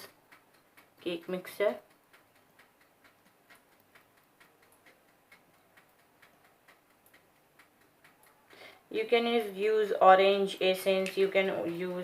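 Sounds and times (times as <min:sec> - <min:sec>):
faint even ticking: 0:00.0 - 0:12.0.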